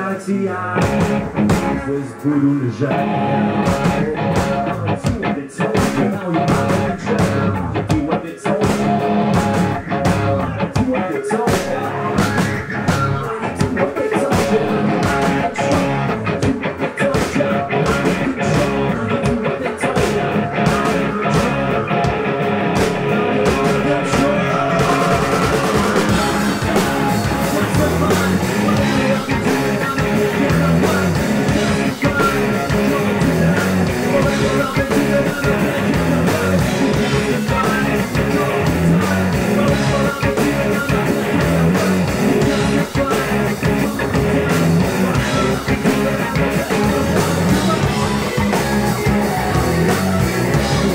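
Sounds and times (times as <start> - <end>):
bass guitar: 0.0 - 50.9
drum kit: 0.0 - 50.9
electric guitars: 0.0 - 50.9.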